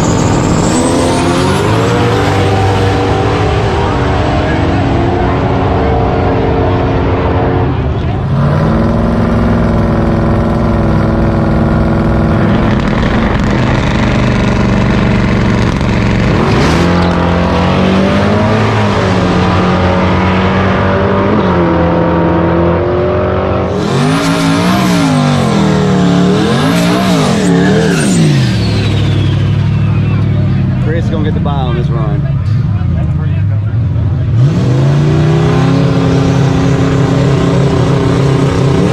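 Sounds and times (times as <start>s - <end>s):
car engines idling and revving: 0.0s - 38.9s.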